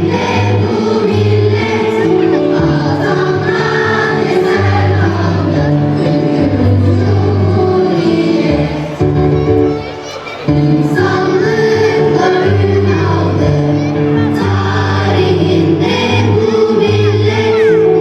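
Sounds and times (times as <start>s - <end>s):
choir singing: 0.0s - 18.0s
instrumental accompaniment: 0.0s - 18.0s.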